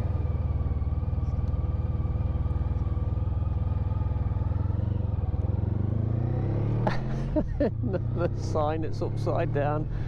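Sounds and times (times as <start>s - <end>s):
motorcycle engine droning: 0.0s - 10.0s.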